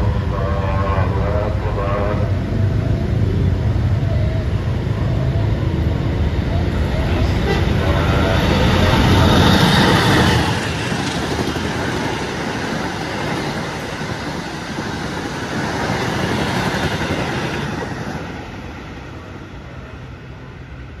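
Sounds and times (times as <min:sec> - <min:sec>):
diesel locomotive passing: 0:00.0 - 0:21.0
train wheels on rails: 0:02.4 - 0:21.0.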